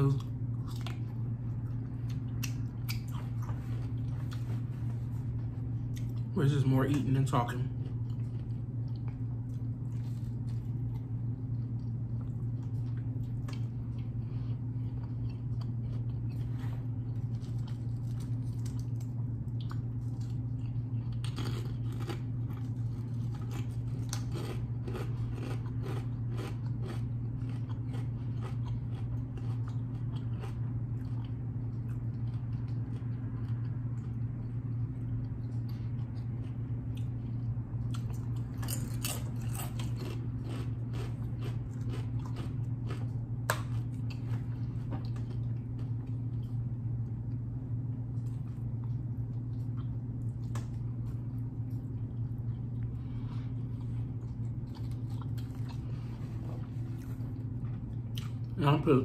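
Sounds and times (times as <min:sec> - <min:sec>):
person chewing crunchy food: 0:00.0 - 0:59.0
steady low hum: 0:00.0 - 0:59.0.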